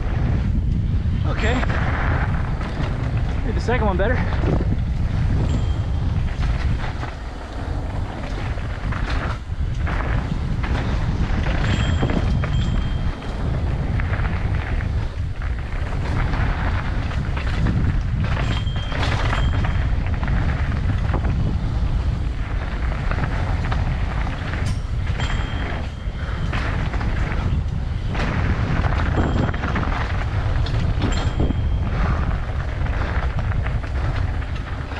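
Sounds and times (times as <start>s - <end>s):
bike knocks and rattles: 0.0s - 34.9s
bike tyres rolling over gravel: 0.0s - 34.9s
wind rumbling on microphone: 0.0s - 34.9s
brakes squealing: 0.2s - 34.9s.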